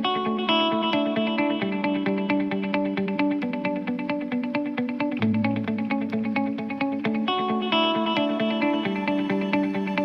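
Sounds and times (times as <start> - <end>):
plucked notes over held chords: 0.0 - 10.0.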